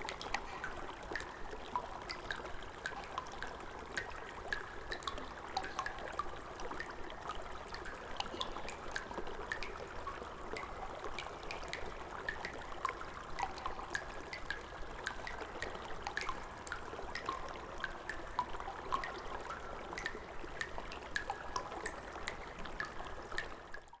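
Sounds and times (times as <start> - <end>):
water drips and plinks: 0.0 - 24.0
water trickling and running: 0.0 - 24.0.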